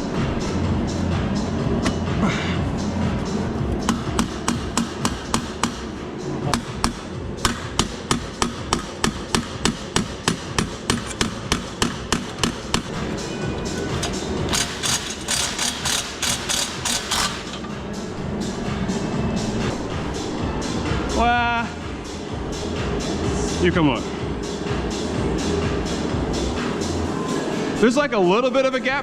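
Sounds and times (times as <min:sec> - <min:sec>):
background music: 0:00.0 - 0:29.0.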